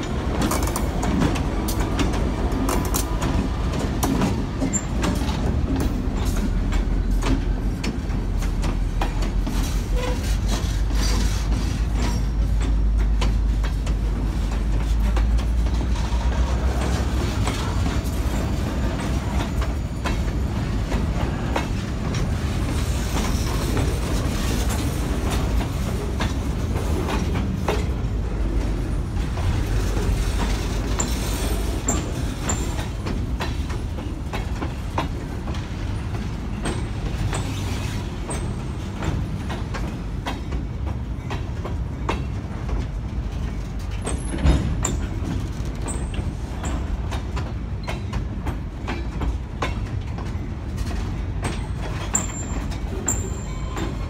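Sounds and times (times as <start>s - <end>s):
train low rumble: 0.0s - 54.0s
train wheels clicking over rail joints: 0.0s - 54.0s.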